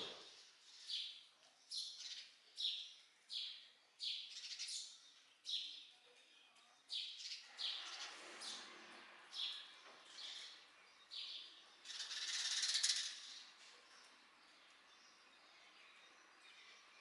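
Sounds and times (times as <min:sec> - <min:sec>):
bird chirping: 0:00.0 - 0:08.7, 0:09.3 - 0:17.0.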